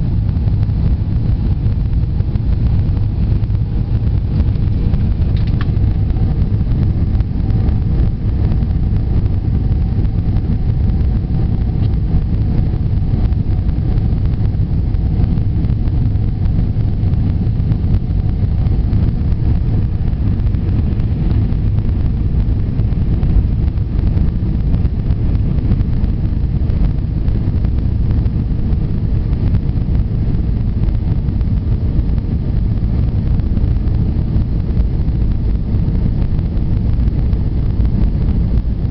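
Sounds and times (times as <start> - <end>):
airliner cabin engine roar: 0.0 - 38.9
faint steady tones: 0.0 - 38.9.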